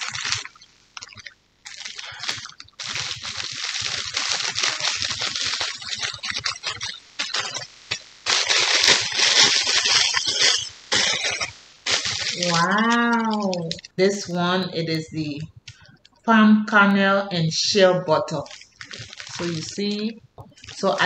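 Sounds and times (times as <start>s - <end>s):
plastic bag crinkling: 0.0s - 16.3s, 17.9s - 21.0s.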